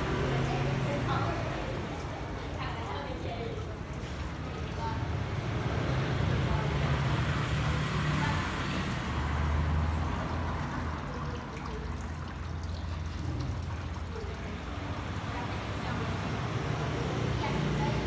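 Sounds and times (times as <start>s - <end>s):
low rumble of motor traffic: 0.0s - 18.0s.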